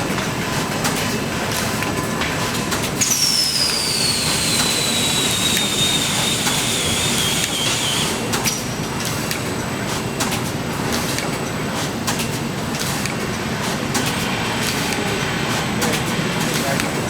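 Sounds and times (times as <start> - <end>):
factory machinery running: 0.0 - 17.0.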